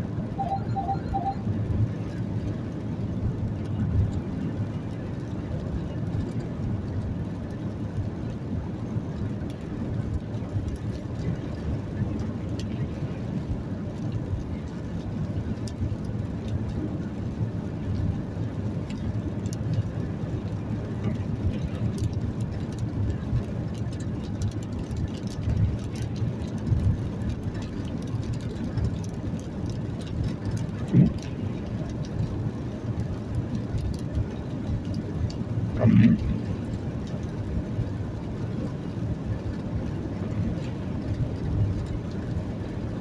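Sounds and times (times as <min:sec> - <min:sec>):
vehicle engine and road noise: 0:00.0 - 0:43.0.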